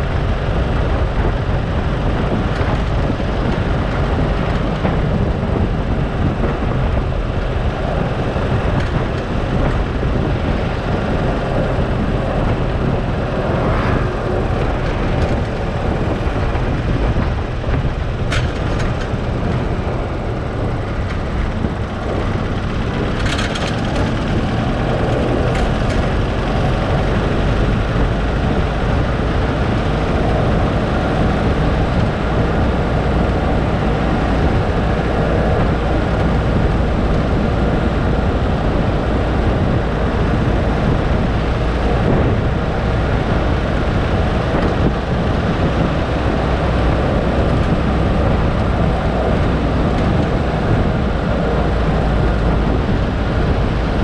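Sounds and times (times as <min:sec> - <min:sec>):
vehicle driving rumble: 0:00.0 - 0:54.0.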